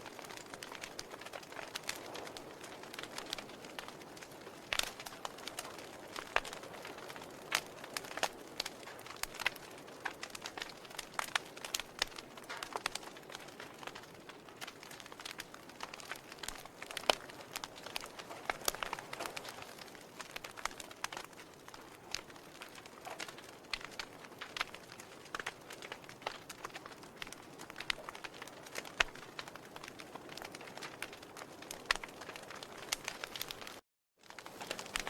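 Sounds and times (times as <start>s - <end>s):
soft hiss of burning: 0.0s - 35.0s
wood fire crackling: 0.0s - 35.0s.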